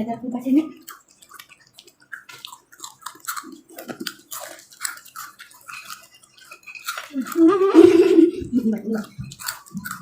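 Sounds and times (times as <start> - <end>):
chewing crunchy snack: 0.6 - 10.0.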